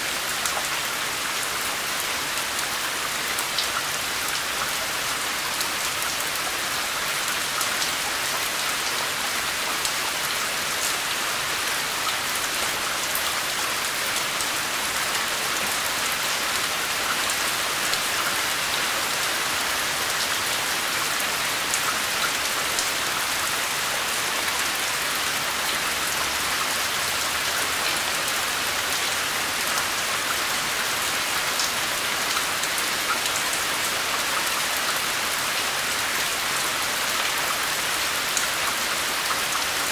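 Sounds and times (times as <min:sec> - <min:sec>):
steady rain on a surface: 0:00.0 - 0:39.9.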